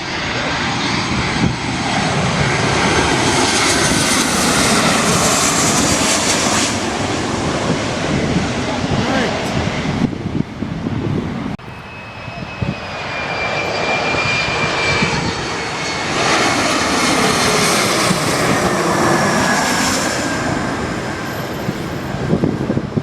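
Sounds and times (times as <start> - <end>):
high jet engine whine: 0.0 - 23.0
jet airliner passing overhead: 0.0 - 23.0.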